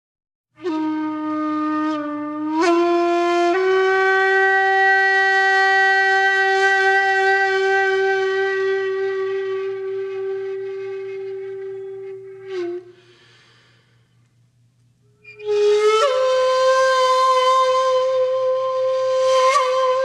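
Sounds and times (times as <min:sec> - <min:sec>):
long horn-like tone: 0:00.6 - 0:13.2, 0:15.1 - 0:20.0.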